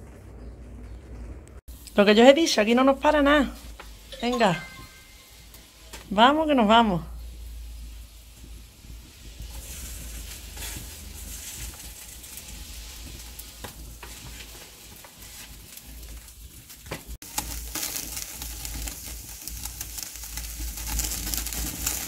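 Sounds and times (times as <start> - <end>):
meat sizzling on grill: 1.7 - 22.0.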